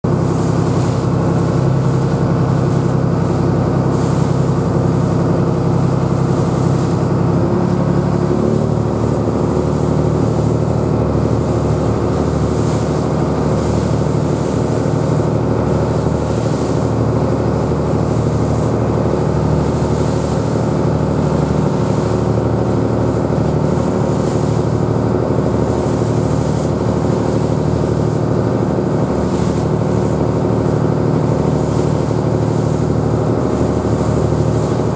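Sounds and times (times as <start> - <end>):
boat engine running: 0.0 - 34.9
water splashing along hull: 0.0 - 34.9.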